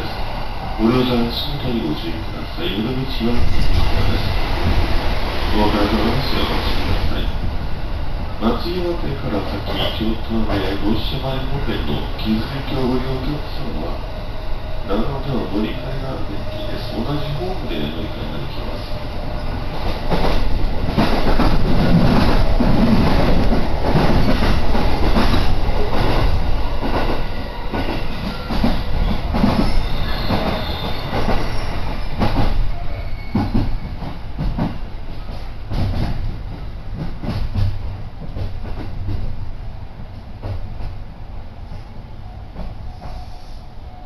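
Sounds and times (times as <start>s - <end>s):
train wheels rumbling: 0.0s - 44.0s.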